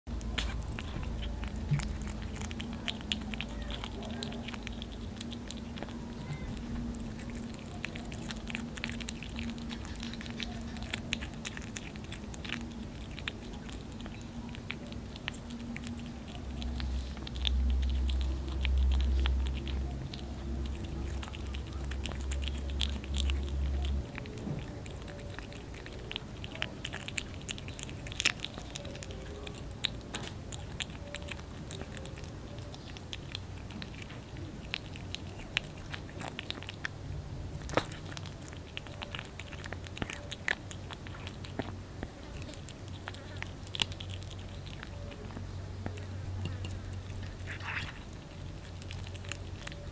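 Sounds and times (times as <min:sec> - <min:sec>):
kitten chewing: 0:00.0 - 0:49.9.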